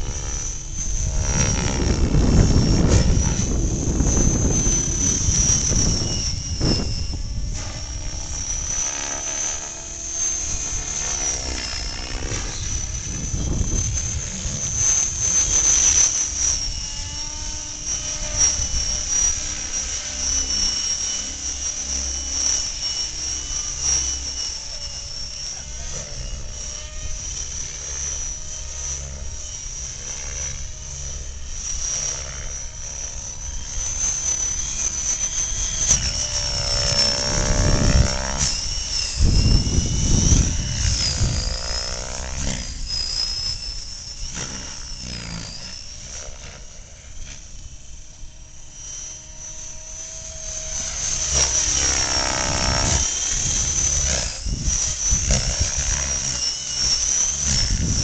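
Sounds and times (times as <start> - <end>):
model helicopter high whine: 0.0 - 58.0.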